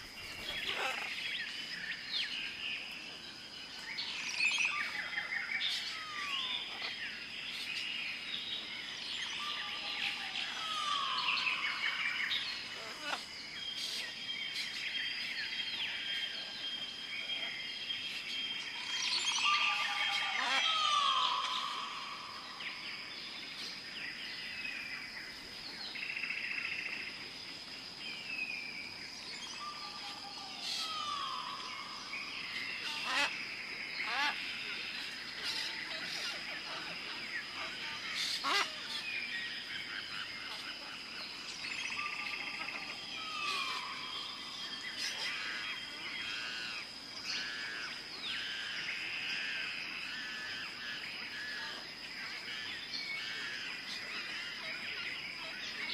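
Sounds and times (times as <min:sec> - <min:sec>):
bird calls: 0:00.0 - 0:03.0, 0:03.7 - 0:27.0, 0:28.2 - 0:55.9.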